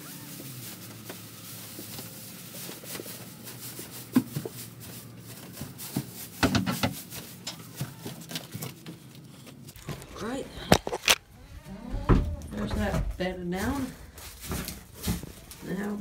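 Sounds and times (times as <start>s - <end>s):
straw rustling: 0.0s - 16.0s.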